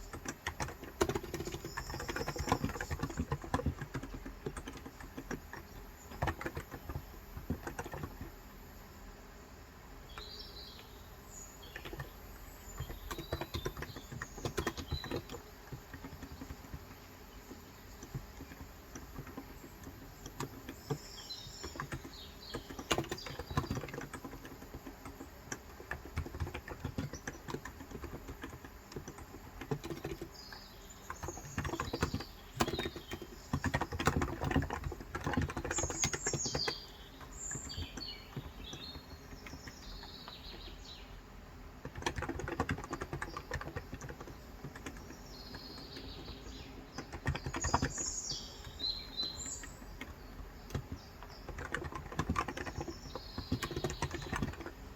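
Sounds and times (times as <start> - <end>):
keyboard typing: 0.0 - 8.4, 11.7 - 40.6, 41.8 - 54.9
birds chirping: 0.0 - 54.9.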